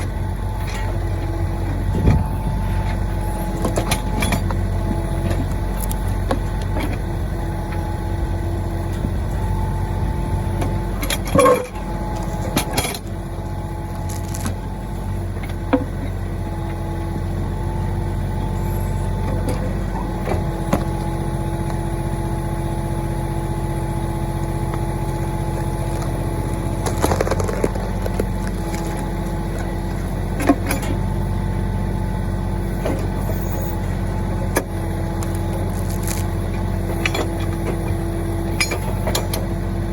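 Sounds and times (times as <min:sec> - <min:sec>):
backhoe clunks and knocks: 0:00.0 - 0:39.9
tractor diesel engine running: 0:00.0 - 0:39.9.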